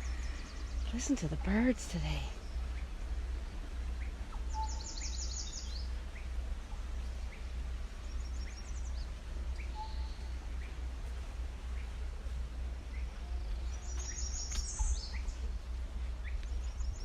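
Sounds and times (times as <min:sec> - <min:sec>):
songbirds trilling and chirping: 0:00.0 - 0:17.0
steady low rumble: 0:00.0 - 0:17.0.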